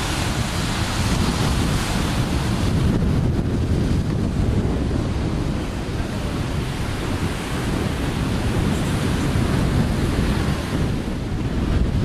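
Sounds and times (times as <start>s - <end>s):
surf on sandy beach: 0.0s - 12.0s
wind buffeting microphone: 0.0s - 12.0s.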